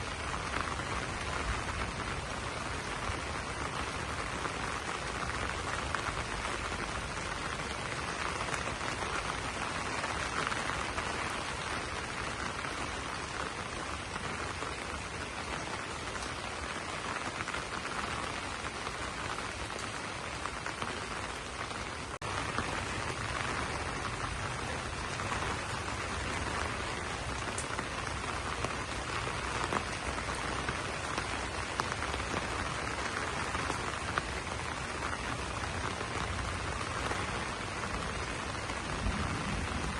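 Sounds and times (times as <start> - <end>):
rain on leaves: 0.0 - 39.9.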